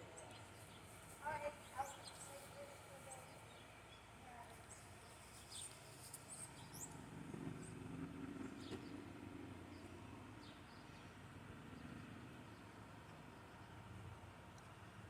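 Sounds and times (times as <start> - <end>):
low faint hum: 0.0 - 15.0.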